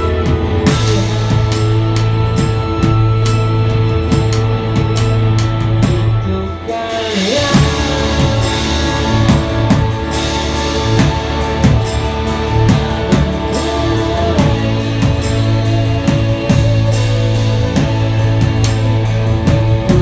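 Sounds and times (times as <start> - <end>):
bass guitar: 0.0 - 20.0
drum and cymbal hits: 0.0 - 20.0
electric guitar strummed: 0.0 - 20.0.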